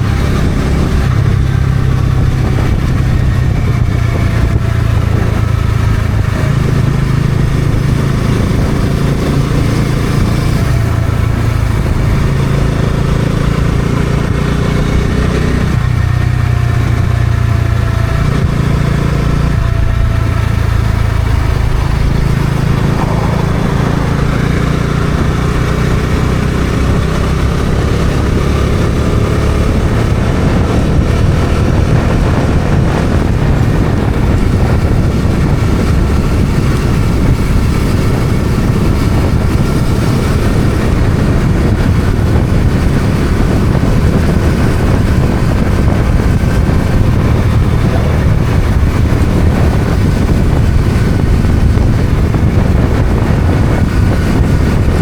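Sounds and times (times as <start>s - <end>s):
motorcycle engine accelerating: 0.0s - 55.0s
wind on microphone: 0.0s - 55.0s.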